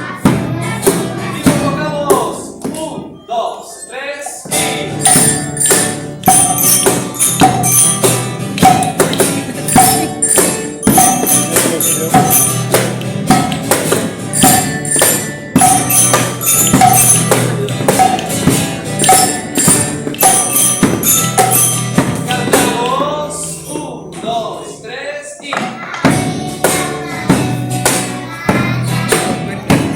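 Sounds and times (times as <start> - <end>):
percussion on a steady beat: 0.0 - 3.2, 4.3 - 24.2, 25.4 - 29.9.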